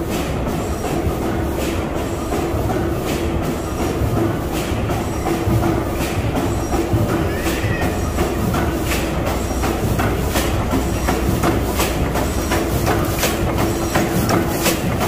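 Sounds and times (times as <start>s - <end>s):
gas engine clattering: 0.0s - 15.0s.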